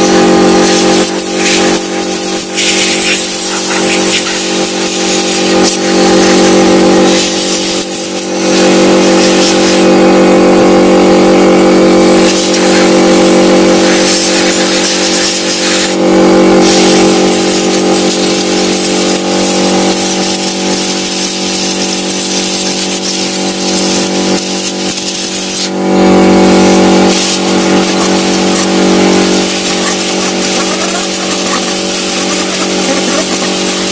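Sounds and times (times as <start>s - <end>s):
compressed air hissing: 0.0s - 9.9s, 12.2s - 25.8s, 26.6s - 33.9s
air compressor motor running: 0.0s - 33.9s.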